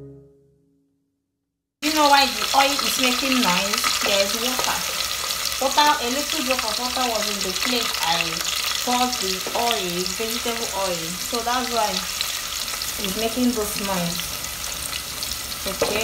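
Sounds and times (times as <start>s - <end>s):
onions sizzling in oil: 1.8s - 16.0s.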